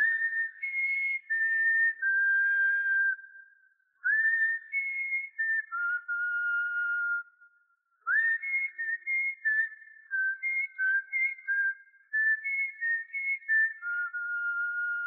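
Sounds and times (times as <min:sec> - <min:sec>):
person whistling a tune: 0:00.0 - 0:07.4, 0:08.1 - 0:15.0.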